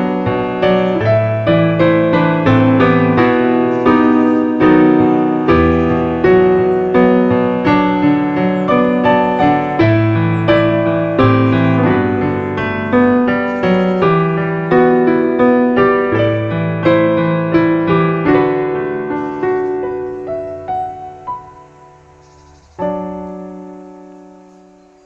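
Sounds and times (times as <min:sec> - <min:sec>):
gentle piano piece: 0:00.0 - 0:25.0.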